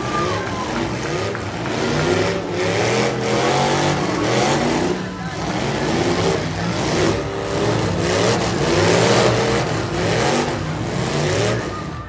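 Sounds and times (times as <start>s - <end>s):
car engines revving hard: 0.0s - 12.0s
cars ramming each other: 0.0s - 12.0s.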